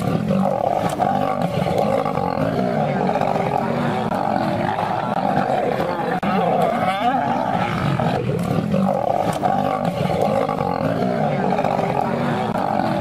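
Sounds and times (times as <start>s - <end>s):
lions growling and snarling: 0.0s - 13.0s.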